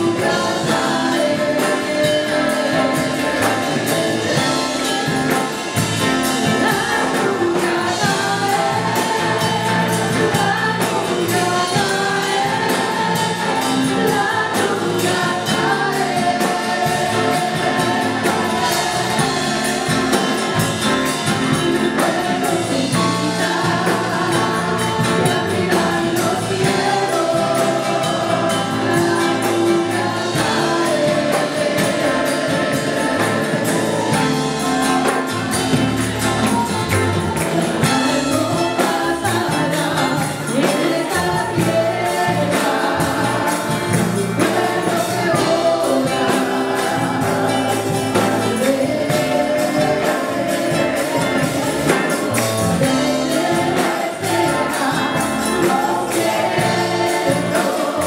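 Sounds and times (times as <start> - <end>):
electric and acoustic guitar: 0.0 - 58.0
women singing together: 0.0 - 58.0.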